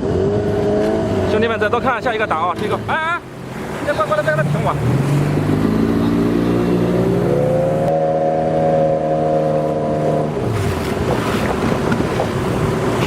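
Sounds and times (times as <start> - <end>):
boat motor speeding up: 0.0 - 13.0.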